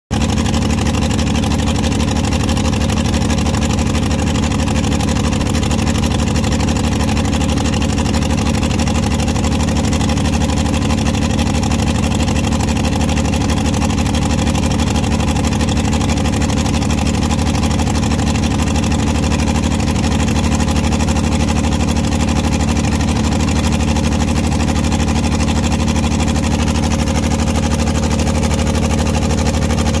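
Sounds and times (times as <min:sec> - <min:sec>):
tractor engine running steadily: 0:00.1 - 0:30.0.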